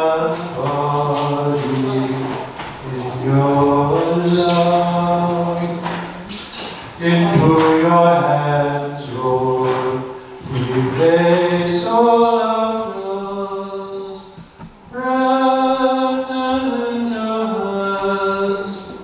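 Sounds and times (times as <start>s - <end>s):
person singing a hymn: 0.0s - 6.3s, 6.9s - 19.0s.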